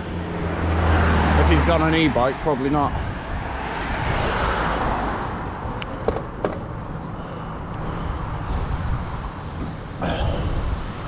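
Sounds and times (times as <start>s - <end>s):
wind buffeting microphone: 2.1s - 11.0s.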